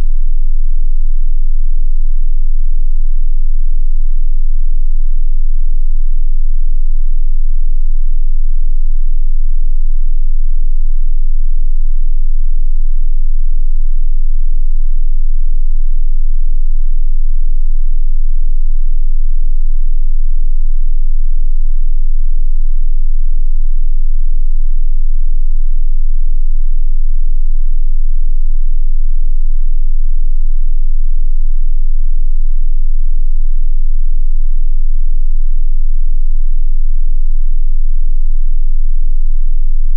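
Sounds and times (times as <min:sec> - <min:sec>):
low sine tone: 0:00.0 - 0:39.9.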